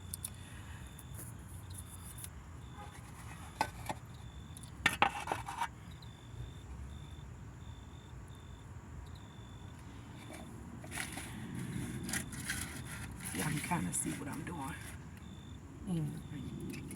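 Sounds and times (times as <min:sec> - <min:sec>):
insect chirping: 0:00.0 - 0:16.9.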